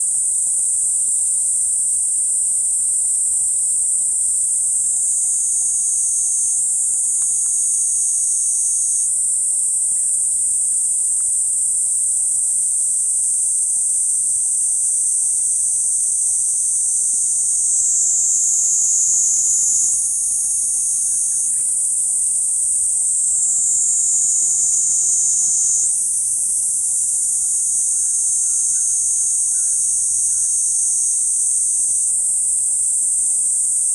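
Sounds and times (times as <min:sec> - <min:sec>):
cicada buzzing drone: 0:00.0 - 0:33.9.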